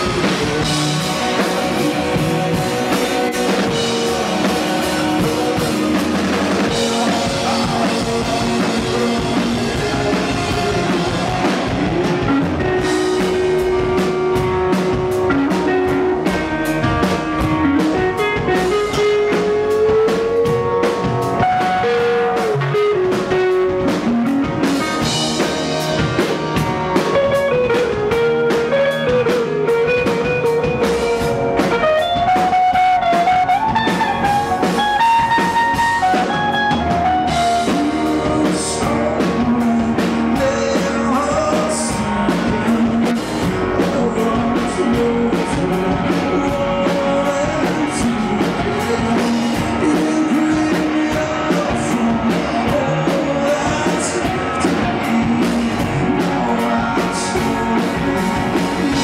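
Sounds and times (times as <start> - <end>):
drums and cymbals: 0.0 - 59.0
electric guitar line: 0.0 - 59.0
man singing: 0.0 - 59.0
rock band playing: 0.0 - 59.0.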